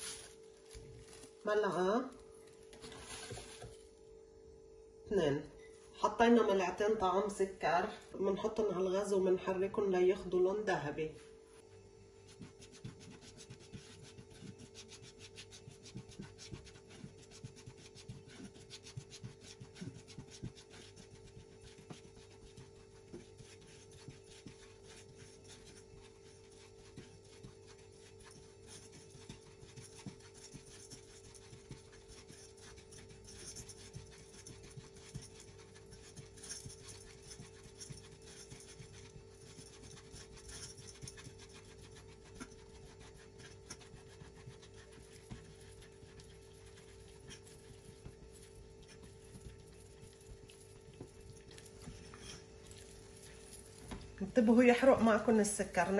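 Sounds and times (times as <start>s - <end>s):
spatula scraping sugar in pan: 0.0s - 1.5s, 12.2s - 55.9s
faint steady hum: 0.0s - 55.9s.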